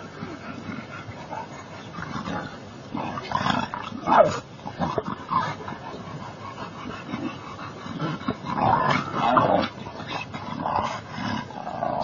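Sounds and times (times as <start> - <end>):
animals growling: 0.0 - 12.0.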